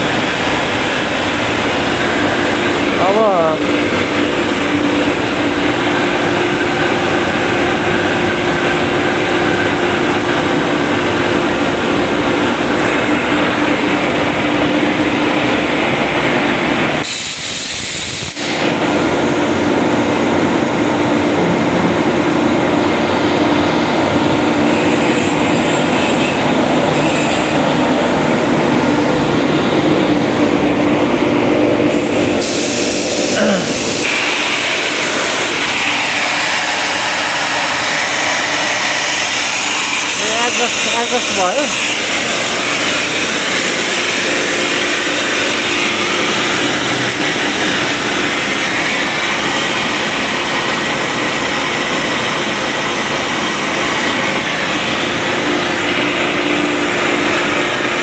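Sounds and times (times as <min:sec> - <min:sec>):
air compressor drone: 0:00.0 - 0:58.0.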